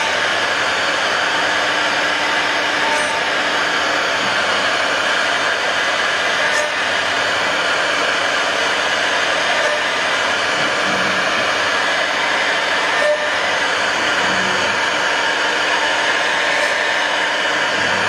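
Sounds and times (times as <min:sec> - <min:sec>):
router bit cutting wood: 0:00.0 - 0:18.0.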